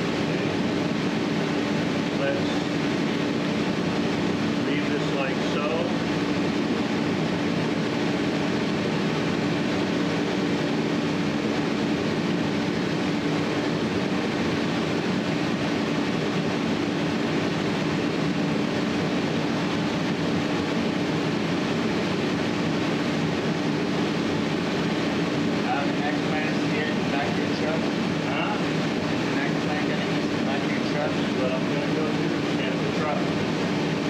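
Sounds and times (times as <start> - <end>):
fan humming and rushing: 0.0 - 34.0.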